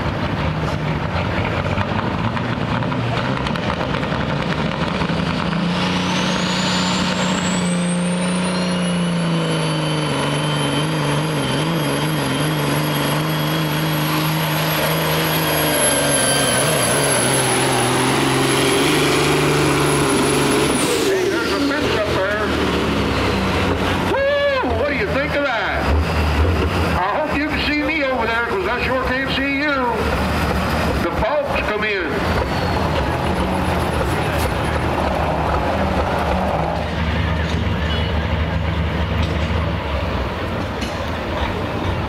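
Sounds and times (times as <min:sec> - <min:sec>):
diesel engine at full power: 0:00.0 - 0:42.0
turbocharger whine: 0:00.6 - 0:40.4.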